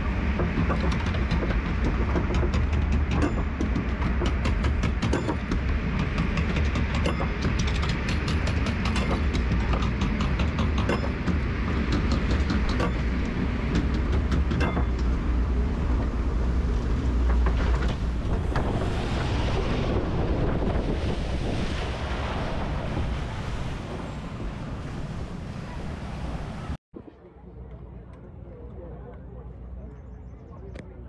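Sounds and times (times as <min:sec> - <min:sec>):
rushing water: 0:00.0 - 0:26.8
wind rumbling on microphone: 0:00.0 - 0:26.8.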